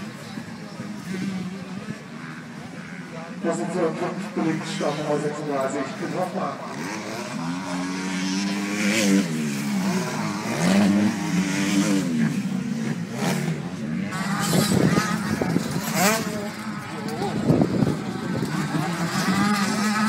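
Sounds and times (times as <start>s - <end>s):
motocross engines racing: 0.0s - 20.0s.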